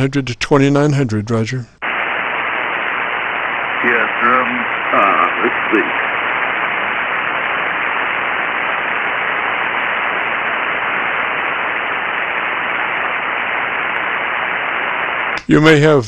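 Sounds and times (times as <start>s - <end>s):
radio receiver hiss: 1.8s - 16.0s.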